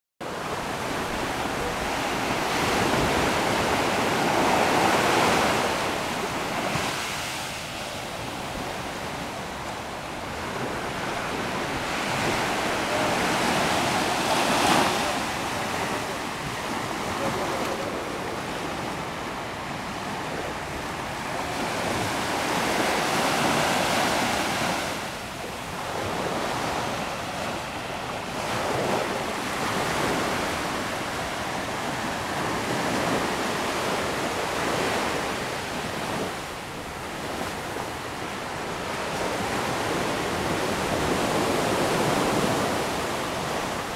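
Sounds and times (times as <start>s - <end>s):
small waves washing up beach: 0.2s - 43.9s.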